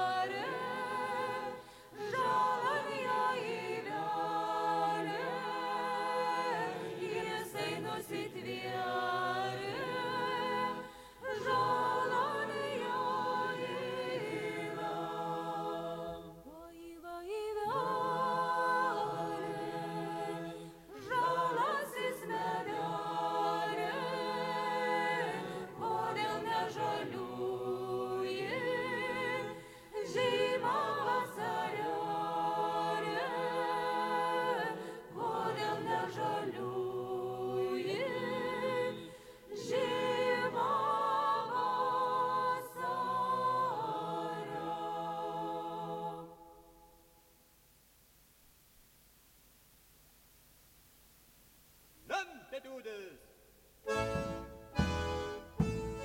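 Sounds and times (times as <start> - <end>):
voices singing unaccompanied: 0.0 - 46.9.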